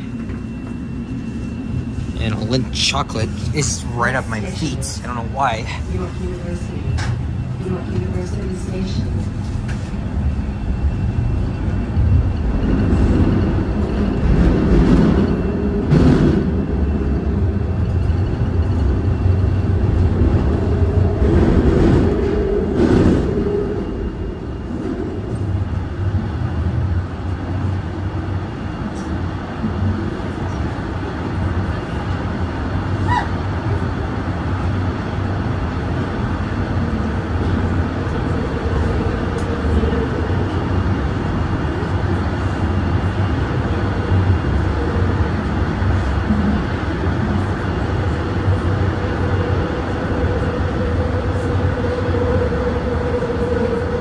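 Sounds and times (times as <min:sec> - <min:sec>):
subway wheels rumbling on rail: 0:00.0 - 0:54.0.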